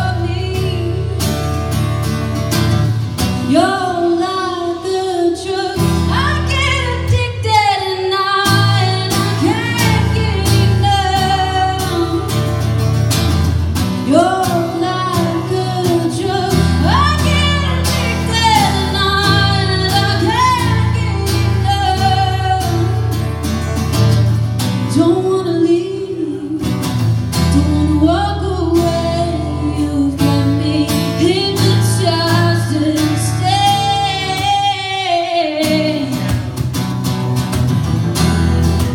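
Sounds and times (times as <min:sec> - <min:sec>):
woman singing: 0:00.0 - 0:01.7, 0:03.4 - 0:12.7, 0:14.0 - 0:23.2, 0:24.8 - 0:36.5
acoustic guitars strumming: 0:00.0 - 0:38.9.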